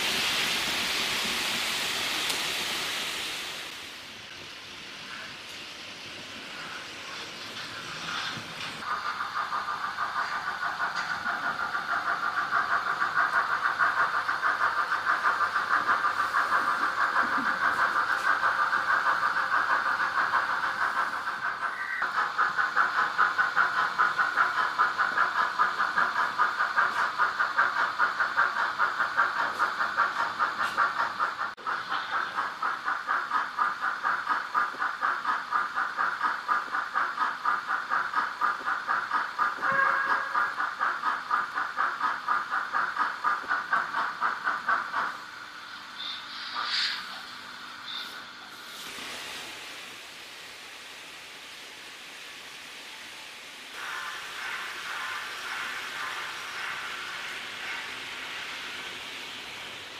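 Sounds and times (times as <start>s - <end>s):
model steam locomotive chuffing: 0.0s - 59.9s
steady steam hiss: 0.0s - 59.9s.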